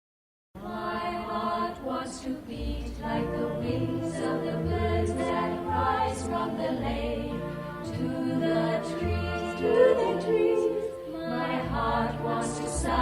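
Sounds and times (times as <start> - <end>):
choir singing slow melody: 0.6 - 13.0.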